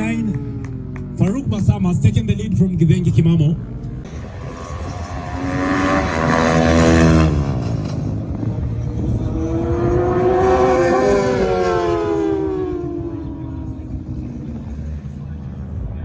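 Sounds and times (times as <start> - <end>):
racing motorbikes passing by: 0.0 - 1.8, 3.2 - 16.0.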